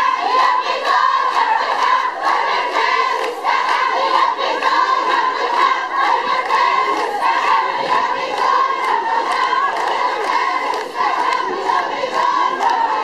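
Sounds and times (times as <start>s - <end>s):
crowd of women chanting: 0.0s - 13.0s.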